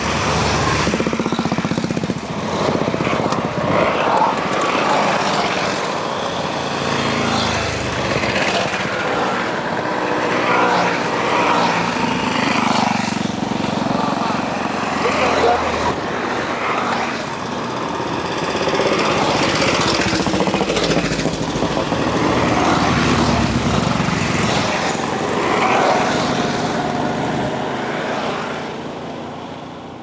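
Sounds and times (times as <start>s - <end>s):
scooters and motorcycles riding past: 0.0s - 30.0s.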